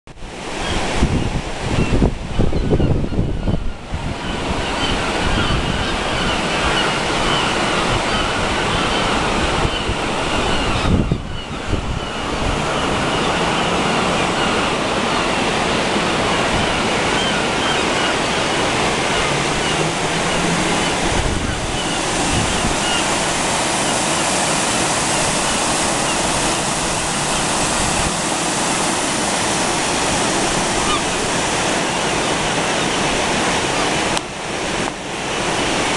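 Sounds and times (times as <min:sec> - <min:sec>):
sea surf on rocky shoreline: 0:00.1 - 0:35.9
wind rumbling on microphone: 0:00.1 - 0:35.9.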